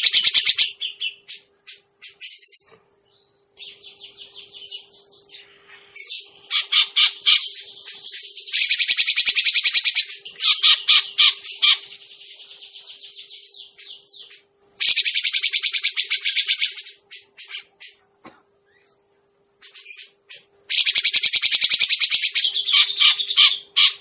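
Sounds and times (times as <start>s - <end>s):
bulbul chattering trills: 0.0s - 18.1s, 19.6s - 24.0s.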